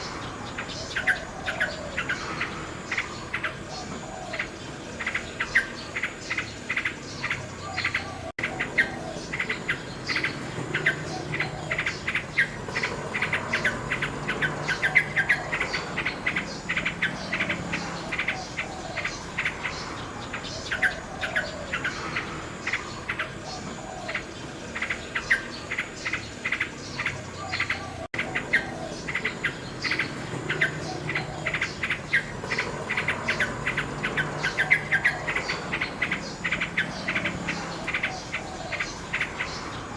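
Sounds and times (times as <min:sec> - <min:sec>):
dense rapid chirping: 0:00.0 - 0:39.9
nightingale singing: 0:00.0 - 0:39.9.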